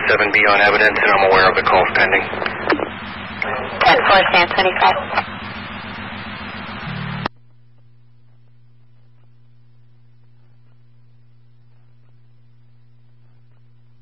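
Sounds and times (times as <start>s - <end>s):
low electrical hum: 0.0s - 14.0s
radio static hiss: 0.0s - 14.0s.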